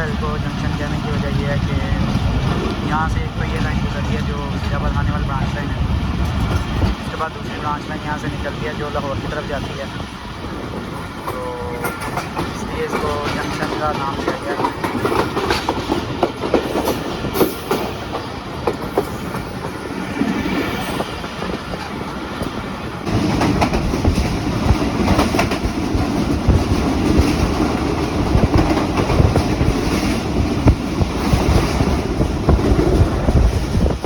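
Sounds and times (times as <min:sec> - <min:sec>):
train wheels clacking on rails: 0:00.0 - 0:34.0.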